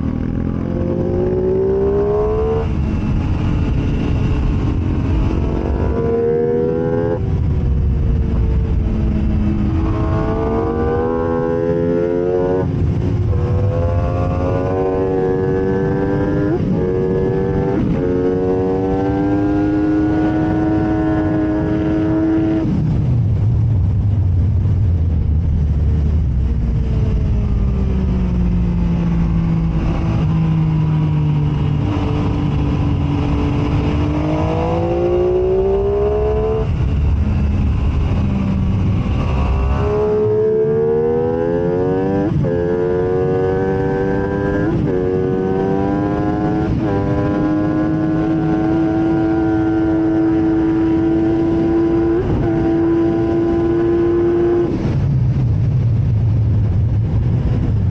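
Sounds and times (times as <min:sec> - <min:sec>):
motorcycle engine at full throttle: 0:00.0 - 0:57.9.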